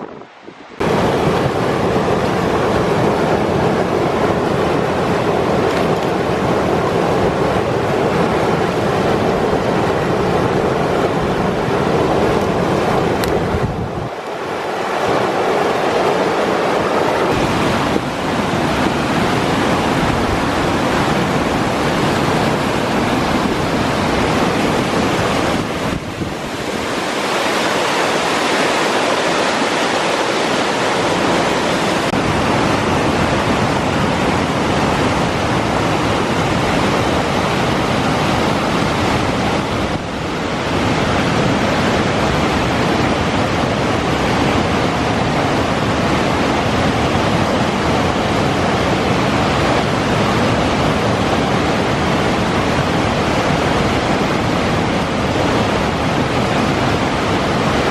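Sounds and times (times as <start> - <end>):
mountain torrent rushing over rapids: 0.0 - 57.9.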